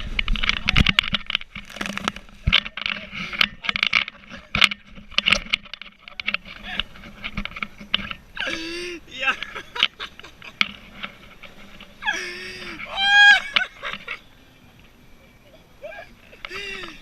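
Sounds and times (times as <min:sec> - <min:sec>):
boat engine hum: 0:00.0 - 0:17.0.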